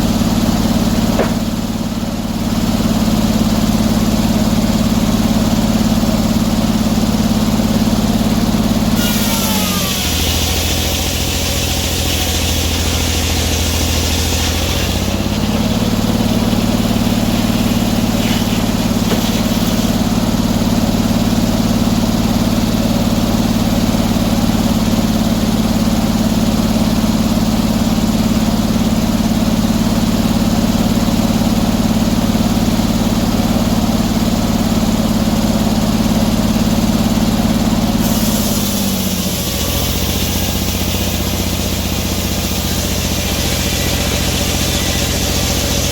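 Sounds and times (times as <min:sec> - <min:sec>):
sawmill engine revving: 0:00.0 - 0:45.9.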